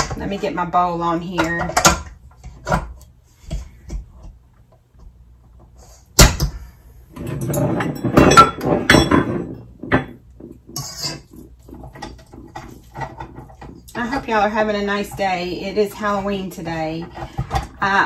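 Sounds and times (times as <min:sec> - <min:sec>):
kitchen items clattering: 0:00.0 - 0:04.4, 0:06.2 - 0:18.0.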